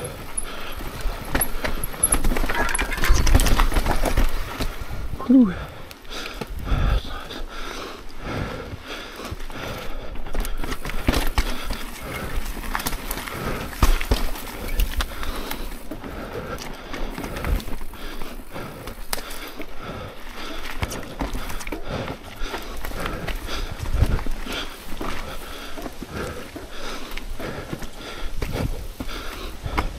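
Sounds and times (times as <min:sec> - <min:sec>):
bike rattling over rocks: 0:00.0 - 0:05.2, 0:08.7 - 0:29.9
bike tyres rolling on dirt: 0:00.0 - 0:29.9.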